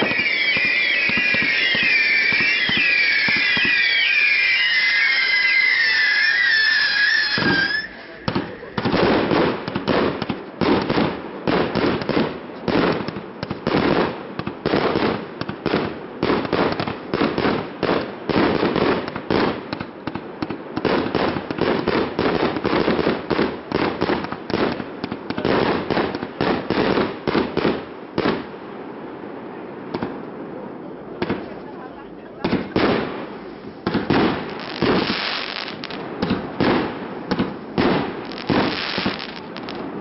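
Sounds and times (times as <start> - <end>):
fireworks bursting: 0.0 - 28.6, 30.9 - 40.0
low steady hiss: 0.0 - 40.0.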